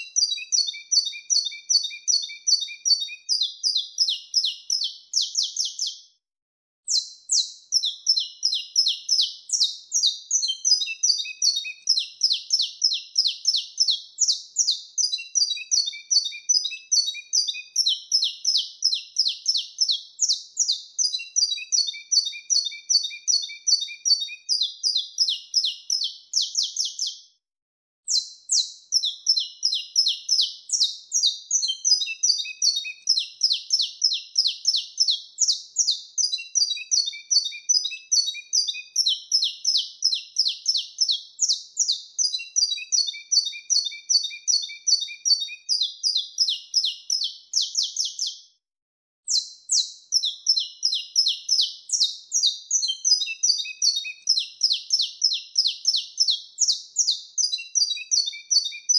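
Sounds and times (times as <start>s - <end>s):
finch singing: 0.0s - 6.1s, 6.9s - 27.2s, 28.1s - 48.4s, 49.3s - 58.9s.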